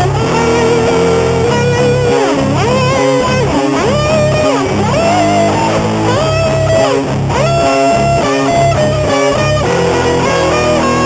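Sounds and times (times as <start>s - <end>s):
bass and chords: 0.0s - 11.0s
electric guitar lead line: 0.0s - 11.0s.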